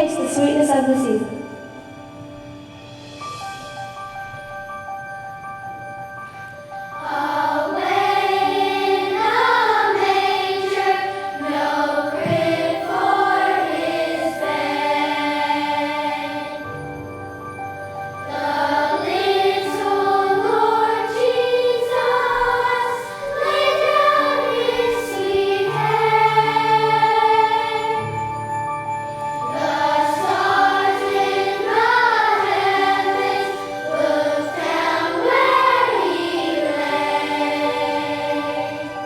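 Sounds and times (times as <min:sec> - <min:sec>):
choir singing with accompaniment: 0:06.3 - 0:39.0.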